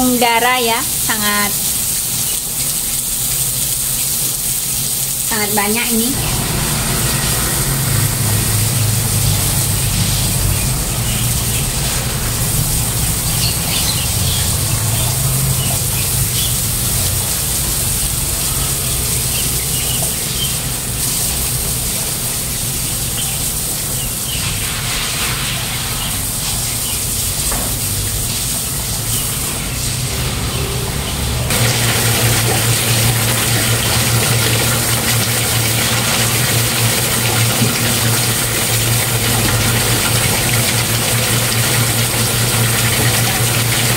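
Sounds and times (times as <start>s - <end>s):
broom scrubbing floor: 0.0s - 43.9s
hose spraying water on tiles: 0.0s - 43.9s.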